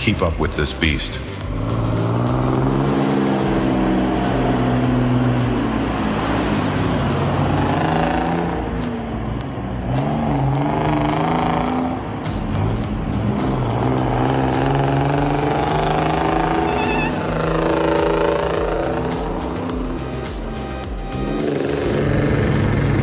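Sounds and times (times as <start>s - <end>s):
truck diesel engine under load: 1.2s - 23.0s.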